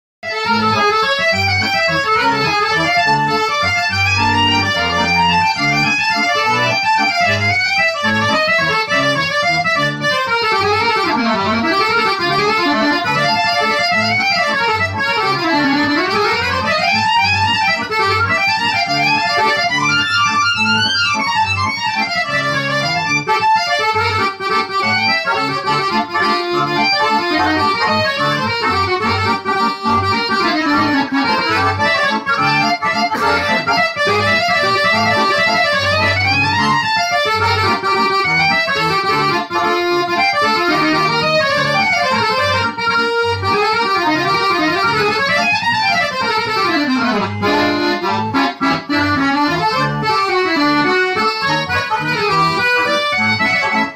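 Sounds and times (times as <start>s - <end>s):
accordion duet: 0.2s - 53.9s.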